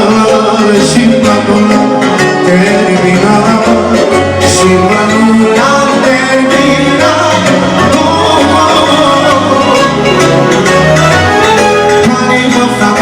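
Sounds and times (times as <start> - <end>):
live band playing lively music: 0.0 - 13.0.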